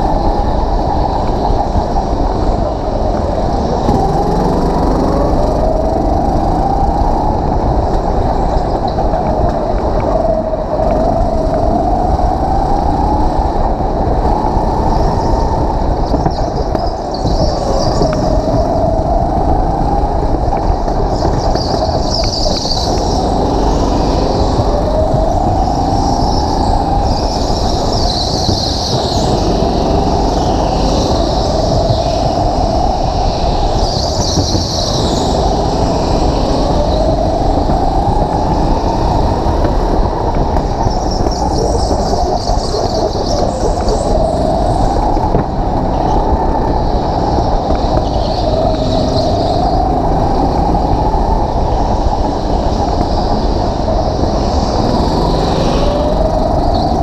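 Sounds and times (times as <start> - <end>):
go-kart engine drone: 0.0 - 57.0
steady rumble: 0.0 - 57.0.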